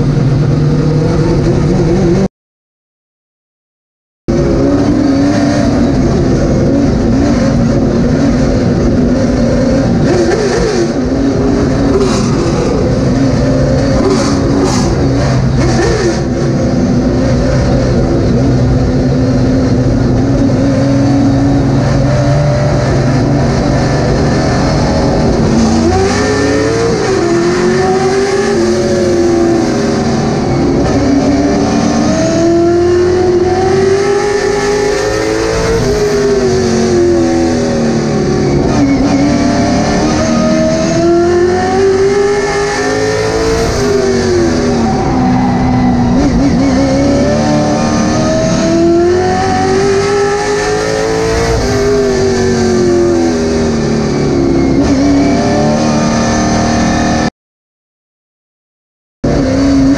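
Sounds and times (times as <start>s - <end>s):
racing car engine from cockpit: 0.0s - 2.3s, 4.3s - 57.3s, 59.2s - 59.9s.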